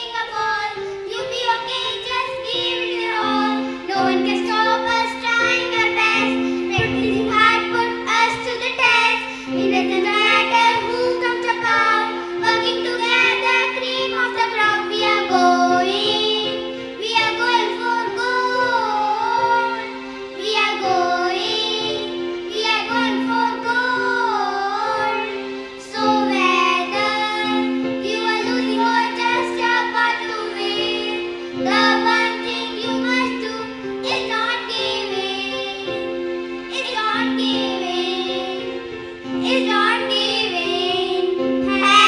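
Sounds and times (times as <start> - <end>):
girls singing into microphones: 0.0 - 42.0.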